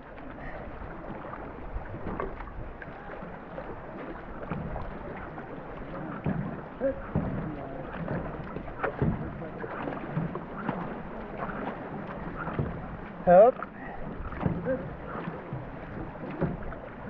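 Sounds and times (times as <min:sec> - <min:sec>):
paddle strokes in water: 0:00.0 - 0:17.0
splashes and knocks: 0:00.0 - 0:17.0
water running along hull: 0:00.0 - 0:17.0.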